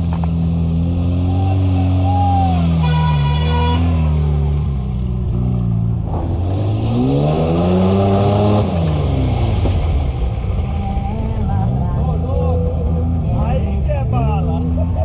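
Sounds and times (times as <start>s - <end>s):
off-road engines revving: 0.0s - 15.0s.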